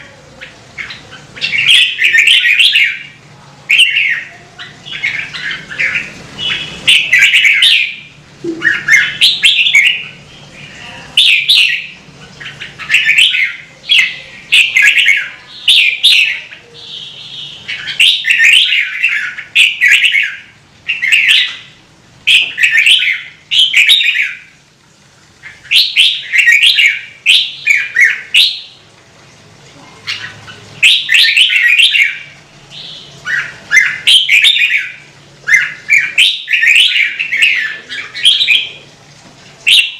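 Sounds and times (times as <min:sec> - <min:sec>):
bird singing warbling phrases: 0:00.0 - 0:24.6, 0:25.4 - 0:28.8, 0:29.7 - 0:39.0, 0:39.6 - 0:39.9.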